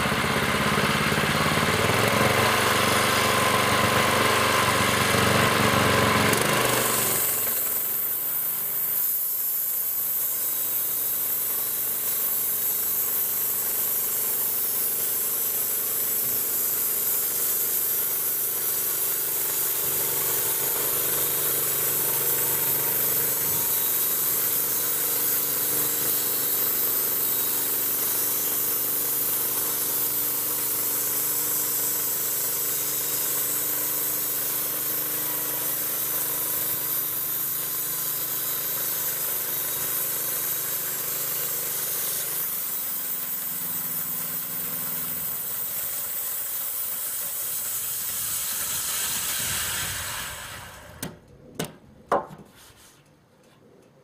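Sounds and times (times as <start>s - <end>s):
small gasoline engine running: 0.0s - 51.2s
saw blade cutting log: 0.0s - 51.3s, 52.1s - 53.1s.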